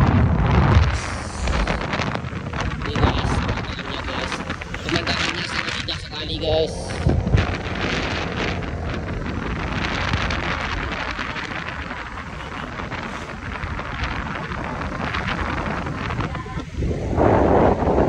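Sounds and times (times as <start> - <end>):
scooter low rumble: 0.0 - 18.0
wind rushing over microphone: 0.0 - 18.0.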